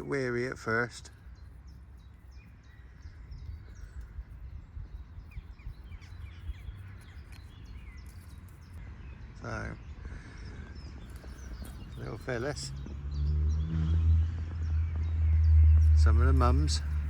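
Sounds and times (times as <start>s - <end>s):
small birds chirping: 0.0s - 17.0s
wind rumble on microphone: 0.0s - 17.0s.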